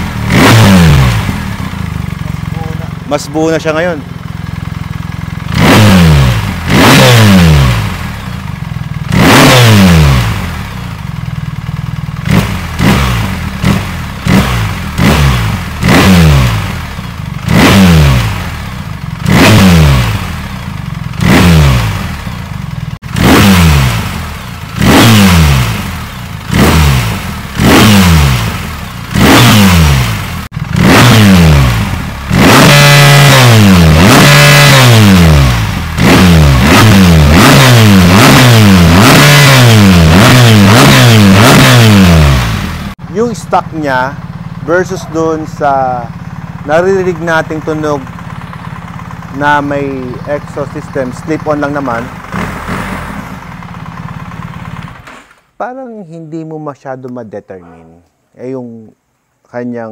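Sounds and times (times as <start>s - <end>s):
motorcycle engine revving: 0.0s - 55.6s.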